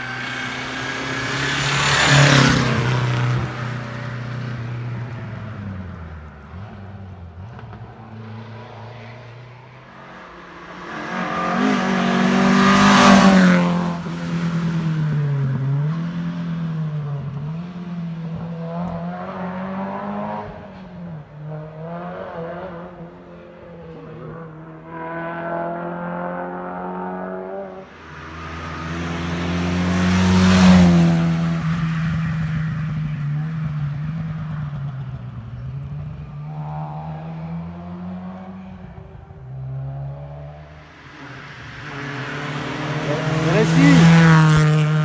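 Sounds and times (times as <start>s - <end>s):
rally car engines revving: 0.0s - 45.0s.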